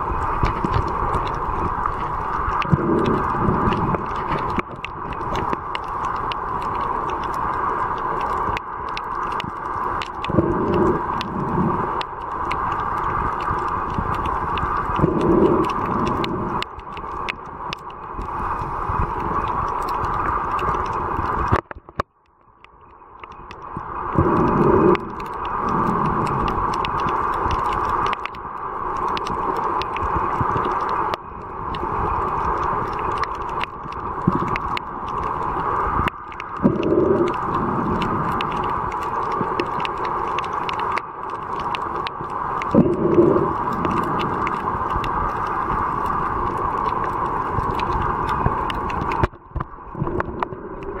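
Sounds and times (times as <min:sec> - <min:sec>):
low underwater whoosh: 0:00.0 - 0:21.5, 0:23.5 - 0:51.0
muffled underwater rush: 0:00.0 - 0:51.0
small crackling clicks: 0:00.0 - 0:51.0.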